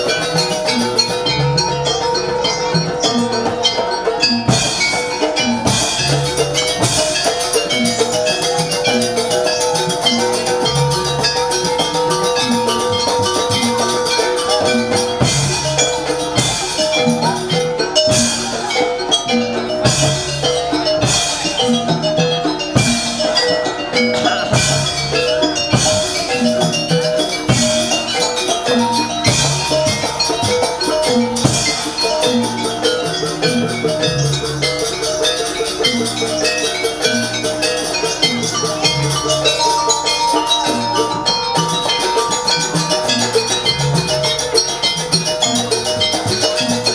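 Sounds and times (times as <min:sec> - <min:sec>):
drums: 0:00.0 - 0:46.9
metal mallet percussion: 0:00.0 - 0:46.9.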